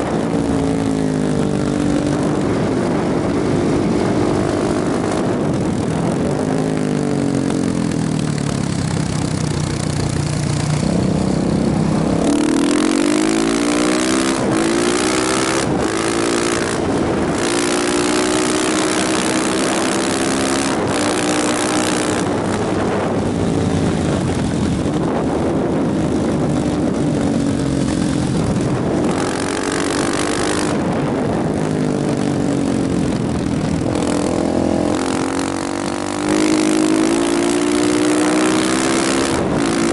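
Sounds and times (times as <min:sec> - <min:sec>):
motorcycle engine shifting gears: 0:00.0 - 0:39.9
wind noise on microphone: 0:00.0 - 0:39.9.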